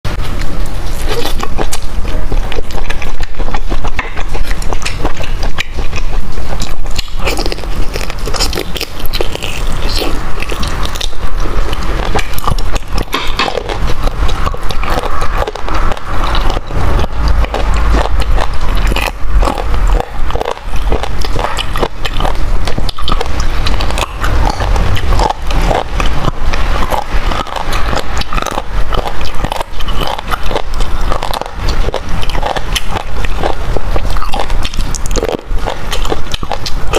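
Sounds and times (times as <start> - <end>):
chewing meat close up: 0.1 - 36.9.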